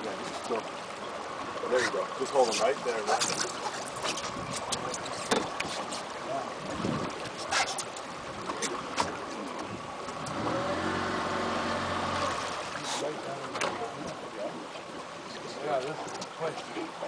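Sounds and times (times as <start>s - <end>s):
boat motor humming: 0.0s - 17.0s
water lapping against boat hull: 0.0s - 17.0s.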